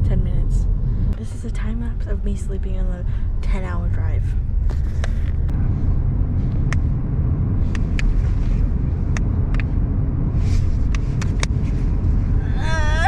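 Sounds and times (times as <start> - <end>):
road rumble inside car: 0.0 - 13.0.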